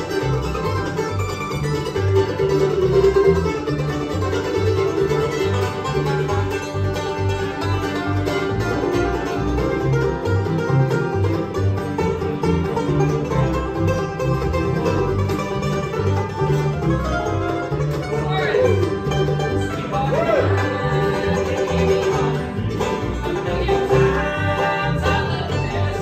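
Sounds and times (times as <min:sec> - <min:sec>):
banjo: 0:00.0 - 0:26.0
bluegrass band playing: 0:00.0 - 0:26.0.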